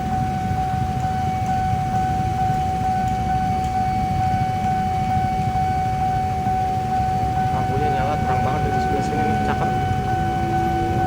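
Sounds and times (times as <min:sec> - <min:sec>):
level crossing alarm pulsing: 0:00.0 - 0:11.0
low rumble of passing train: 0:00.0 - 0:11.0
traffic: 0:00.0 - 0:11.0.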